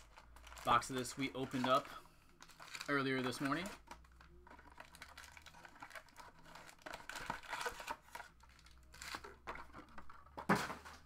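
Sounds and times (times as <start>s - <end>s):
foil packs crinkling: 0.0s - 9.4s.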